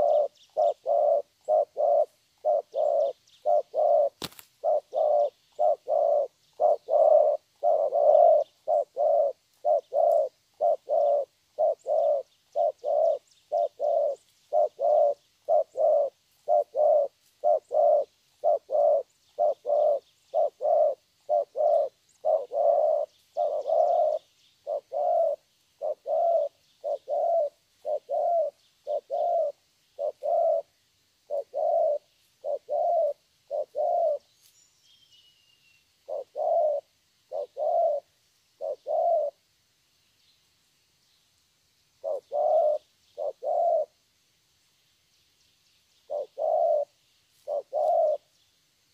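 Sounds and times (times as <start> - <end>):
dove cooing: 0.0 - 34.3, 36.0 - 39.5, 42.0 - 44.0, 46.1 - 48.3
small birds chirping: 0.0 - 48.9.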